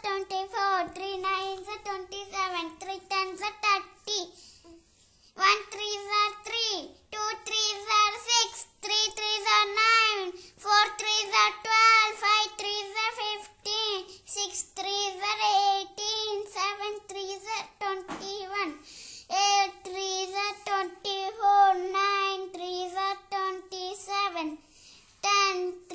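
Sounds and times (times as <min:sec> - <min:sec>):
child chanting sing-song: 0:00.0 - 0:04.4, 0:05.4 - 0:25.9.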